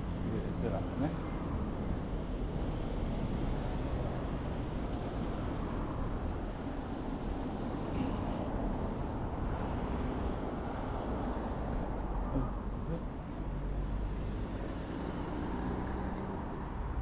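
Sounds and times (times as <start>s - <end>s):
vehicle road noise rumble: 0.0s - 17.0s.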